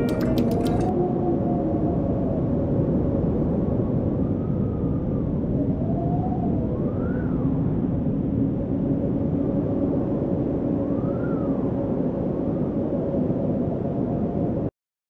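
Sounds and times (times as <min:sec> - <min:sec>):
storm wind roaring and howling: 0:00.0 - 0:14.7.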